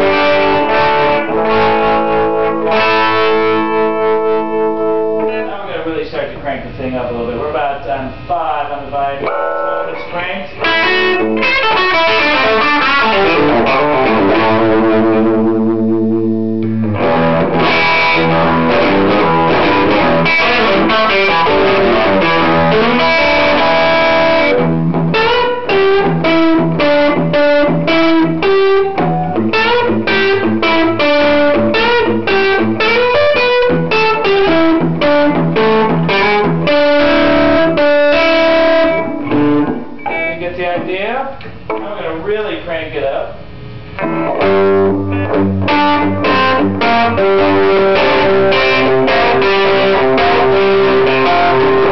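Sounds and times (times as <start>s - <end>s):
electric guitar chords: 0.0s - 5.6s, 9.2s - 40.5s, 43.4s - 51.9s.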